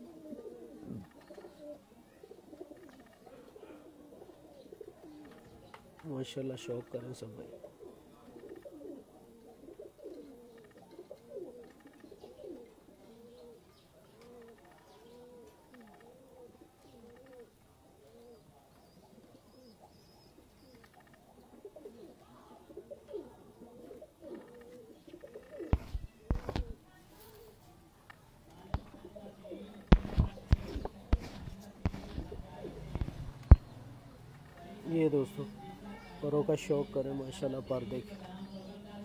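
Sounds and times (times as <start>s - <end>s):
pigeons cooing: 0.0s - 27.8s, 28.5s - 37.9s.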